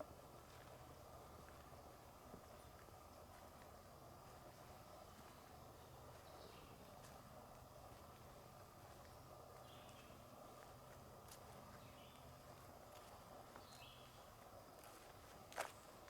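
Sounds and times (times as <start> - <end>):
light footsteps on leaf litter: 0.4 - 16.0.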